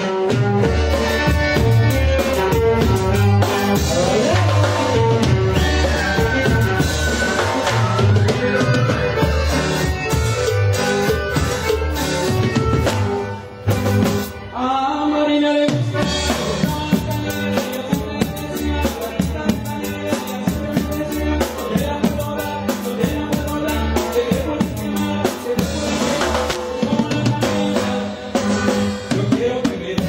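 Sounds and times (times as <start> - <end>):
drum kit steady beat: 0.0 - 14.5, 15.6 - 30.0
band playing live: 0.0 - 30.0.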